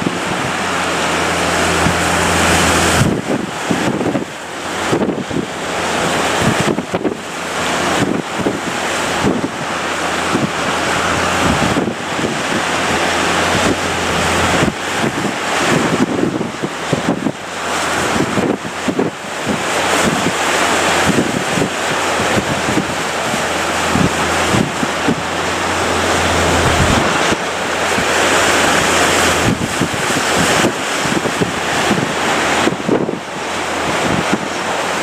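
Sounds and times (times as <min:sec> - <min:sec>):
breaking surf: 0:00.0 - 0:35.0
wind buffeting microphone: 0:00.0 - 0:35.0.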